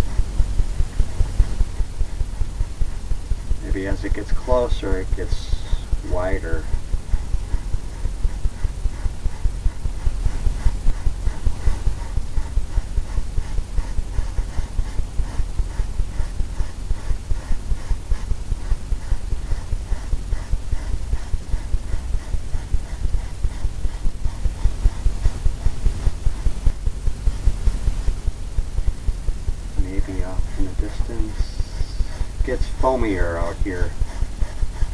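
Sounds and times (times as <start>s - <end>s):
brush strokes knocking on canvas: 0.0s - 34.9s.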